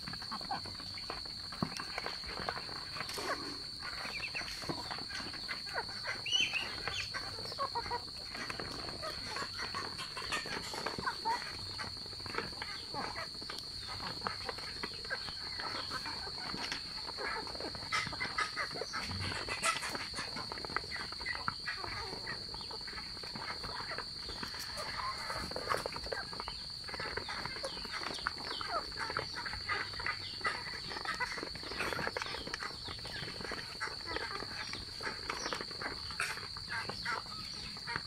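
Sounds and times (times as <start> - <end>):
bills pecking and tapping: 0.0 - 38.0
birds chirping and peeping: 0.0 - 38.0.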